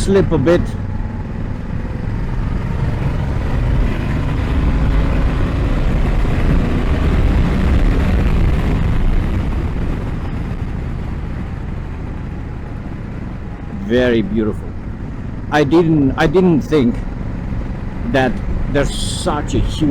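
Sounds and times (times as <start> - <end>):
motorcycle engine under way: 0.0 - 19.9
wind rumble on microphone: 0.0 - 19.9.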